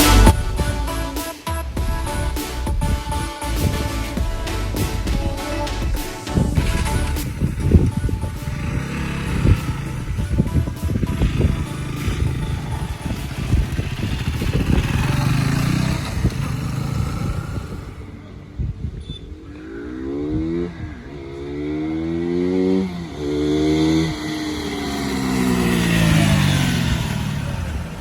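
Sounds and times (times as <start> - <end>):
motorcycle engine revving: 0.0 - 1.0, 1.9 - 28.0.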